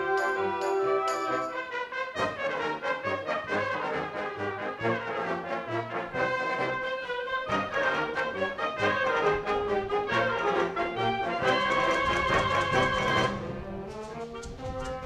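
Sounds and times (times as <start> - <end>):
concert band playing a march: 0.0 - 15.0.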